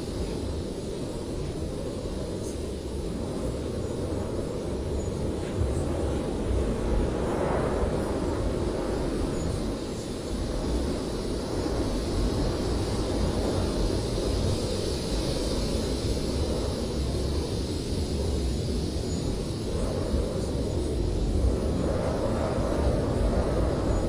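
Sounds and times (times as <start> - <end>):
blizzard wind rumbling: 0.0 - 24.0.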